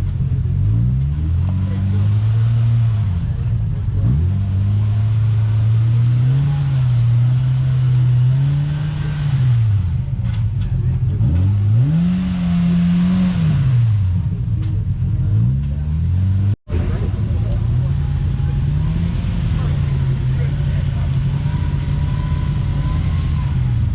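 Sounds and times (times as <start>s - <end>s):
utility vehicle engine revving: 0.0s - 23.9s.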